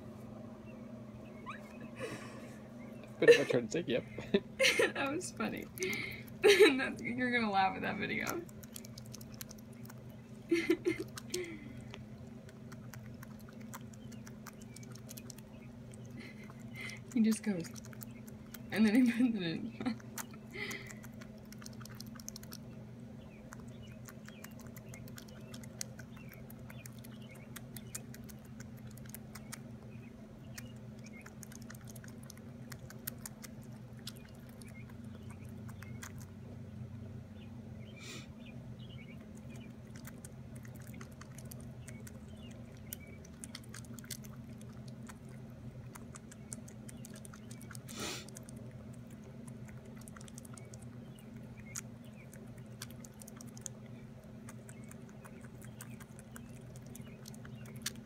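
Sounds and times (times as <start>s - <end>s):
steady low hum: 0.0s - 58.0s
squirrel chewing: 0.1s - 58.0s.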